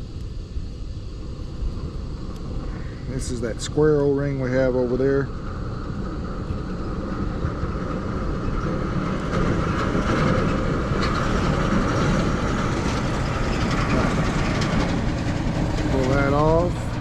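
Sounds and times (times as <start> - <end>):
machinery droning: 0.0 - 17.0.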